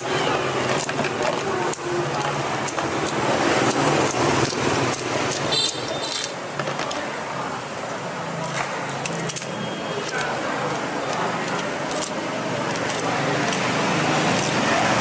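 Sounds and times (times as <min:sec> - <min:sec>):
street traffic: 0:00.0 - 0:15.0
scissors snipping crab shell: 0:00.6 - 0:07.2, 0:08.4 - 0:15.0.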